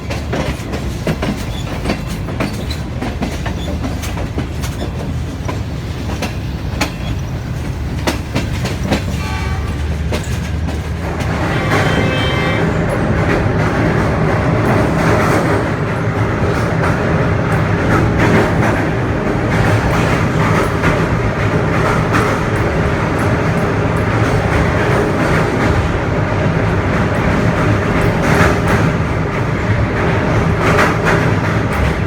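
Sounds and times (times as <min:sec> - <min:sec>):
train rumbling on track: 0:00.0 - 0:32.0
wheels clicking over rail joints: 0:00.0 - 0:32.0.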